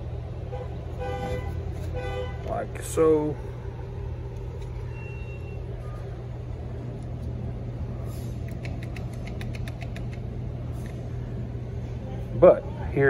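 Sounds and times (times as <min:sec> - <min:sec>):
steady low machine hum: 0:00.0 - 0:13.0.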